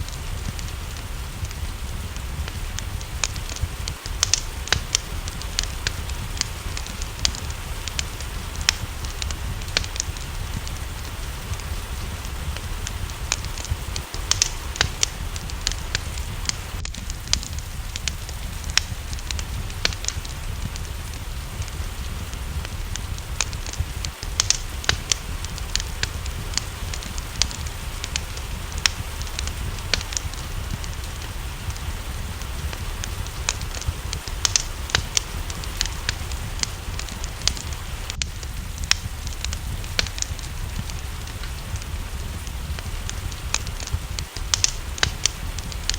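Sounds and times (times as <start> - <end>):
rain hissing: 0.0 - 45.9
wood fire crackling: 0.0 - 45.9.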